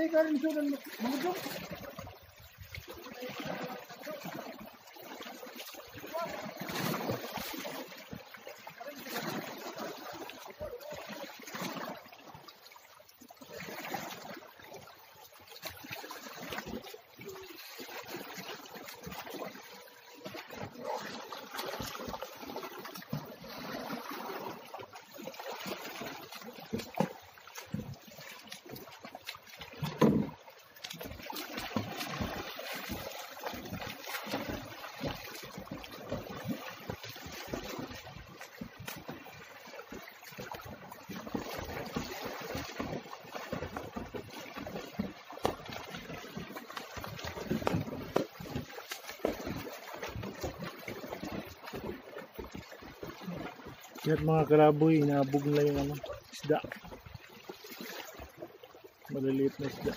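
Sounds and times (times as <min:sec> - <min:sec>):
water splashing and trickling: 0:00.0 - 0:59.9.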